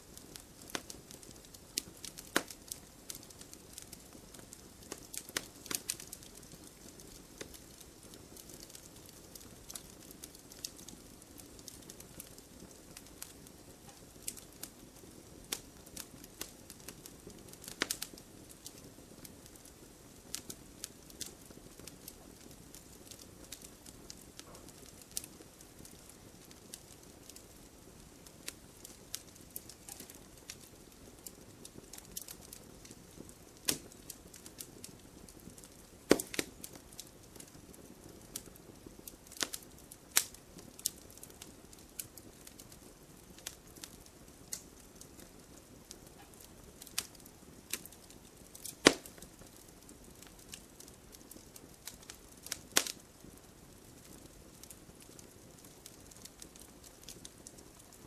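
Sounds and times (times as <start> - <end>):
bonfire crackling and popping: 0.0 - 58.0
hiss of burning: 0.0 - 58.0.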